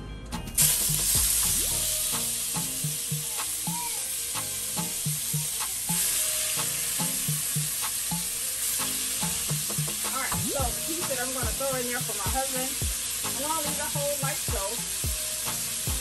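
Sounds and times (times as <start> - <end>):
meat sizzling in oil: 0.6 - 16.0.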